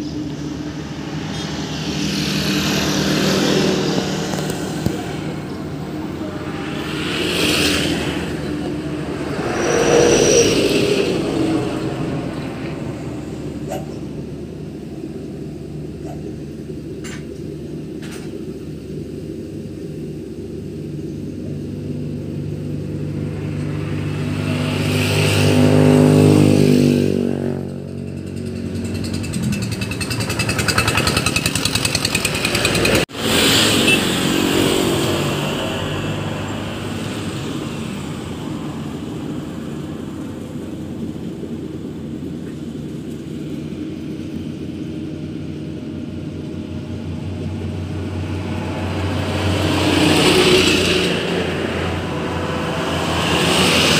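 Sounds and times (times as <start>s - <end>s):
harvester engine running: 0.0s - 53.9s.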